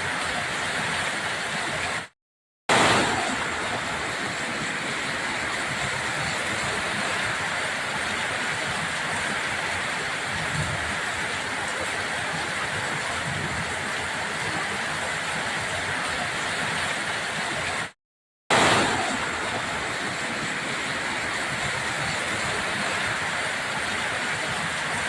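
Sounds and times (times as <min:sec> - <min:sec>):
heavy water rushing: 0:00.0 - 0:25.0.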